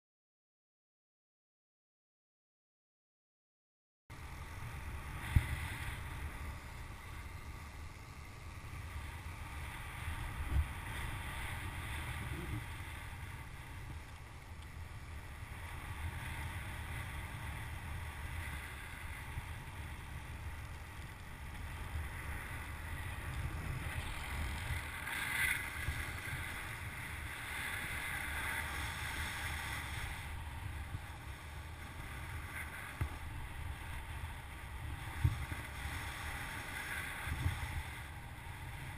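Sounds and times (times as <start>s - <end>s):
wind rushing over microphone: 4.1s - 38.9s.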